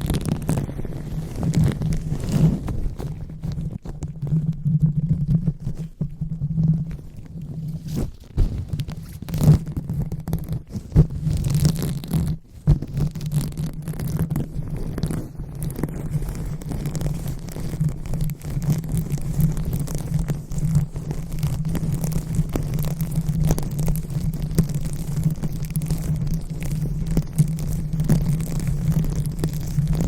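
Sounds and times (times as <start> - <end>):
fingers scratching on microphone: 0.0 - 30.0.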